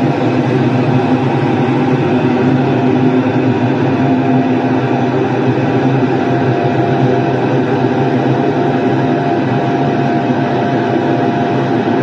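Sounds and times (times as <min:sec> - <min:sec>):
train diesel engine drone: 0:00.0 - 0:12.0.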